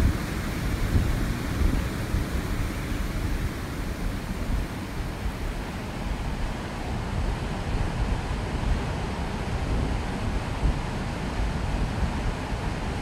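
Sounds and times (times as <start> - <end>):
river rapids and waterfall rushing: 0.0 - 13.0.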